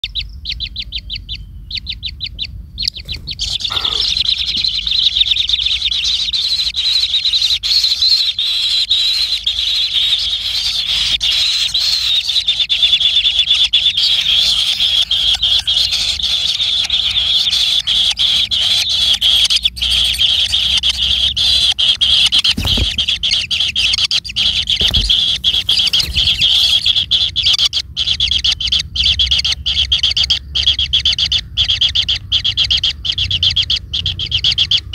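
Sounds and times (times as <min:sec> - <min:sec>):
bird chattering trill: 0:00.0 - 0:34.9.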